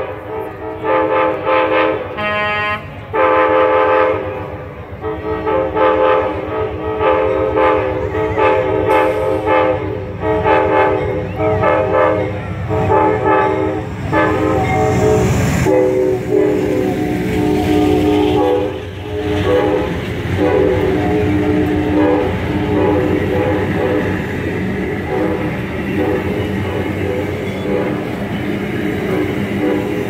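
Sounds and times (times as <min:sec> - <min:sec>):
locomotive air horn blasts: 0:00.0 - 0:30.0
locomotive engine and wheels rumbling: 0:00.0 - 0:30.0.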